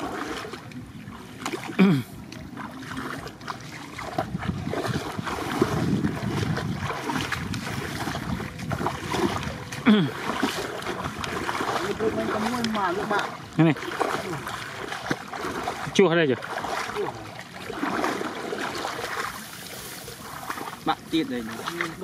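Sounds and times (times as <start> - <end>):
wading through water splashing: 0.0 - 22.0.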